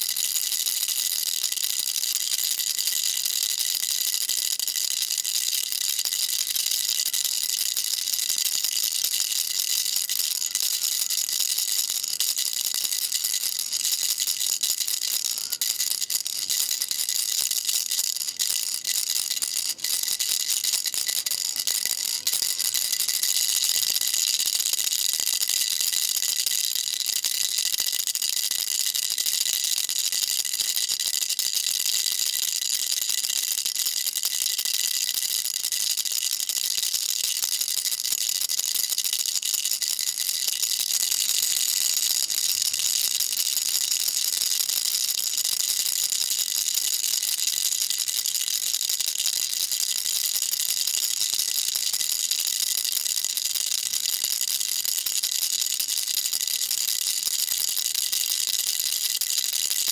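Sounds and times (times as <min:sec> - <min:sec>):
baby rattle shaken: 0:00.0 - 0:27.8, 0:36.9 - 0:59.9.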